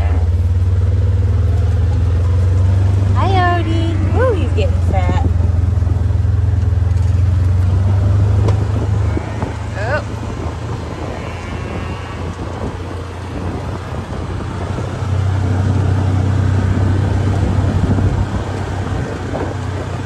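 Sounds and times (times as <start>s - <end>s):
road and wind noise: 0.0s - 20.0s
vehicle engine droning: 0.0s - 20.0s.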